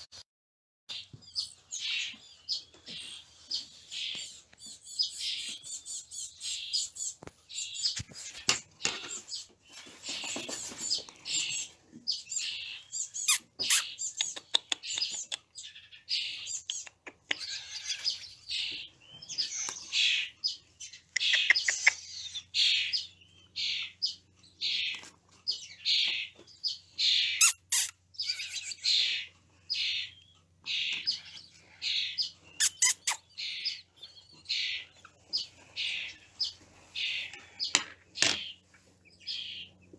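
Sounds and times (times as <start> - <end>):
baby birds cheeping: 0.9 - 39.9.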